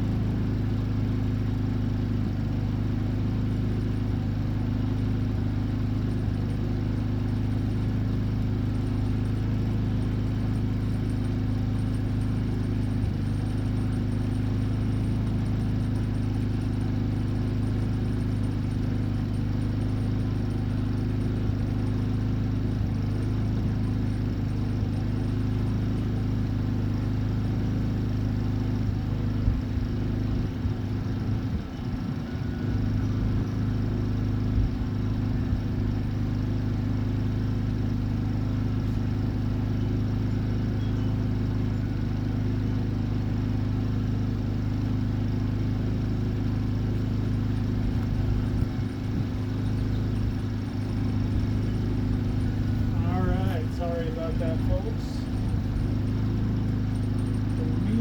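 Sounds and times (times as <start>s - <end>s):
steady low machine hum: 0.0s - 58.0s.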